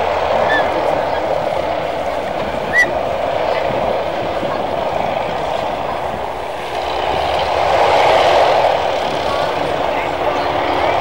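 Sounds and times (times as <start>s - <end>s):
aircraft engines running: 0.0s - 11.0s.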